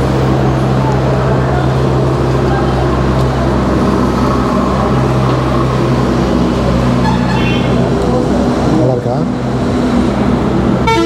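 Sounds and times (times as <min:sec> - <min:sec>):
traffic noise: 0:00.0 - 0:11.0
vehicle engine hum: 0:00.0 - 0:11.0.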